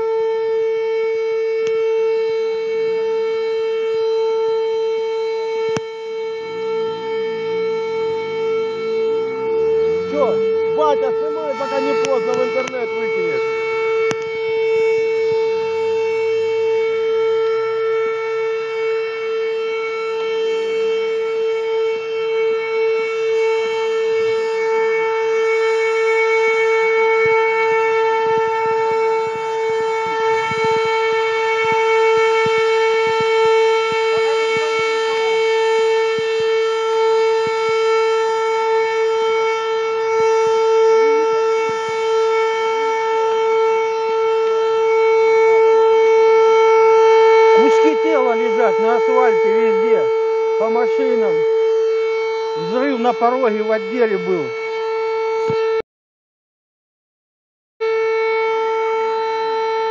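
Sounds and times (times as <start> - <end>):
alarm siren steady tone: 0.0 - 55.8, 57.8 - 59.9.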